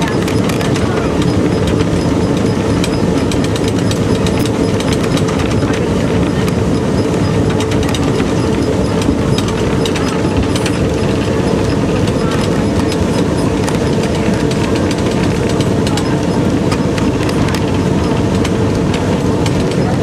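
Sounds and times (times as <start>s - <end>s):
train running rumble: 0.0s - 20.0s
wheels clattering on rails: 0.0s - 20.0s.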